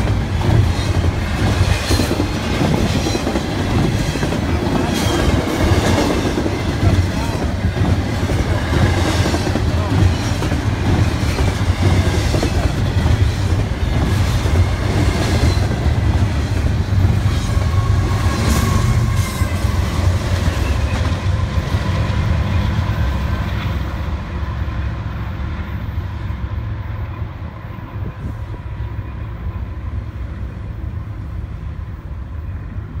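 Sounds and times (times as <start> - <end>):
diesel locomotive passing: 0.0 - 33.0
freight train wheels rumbling on rail: 0.0 - 33.0.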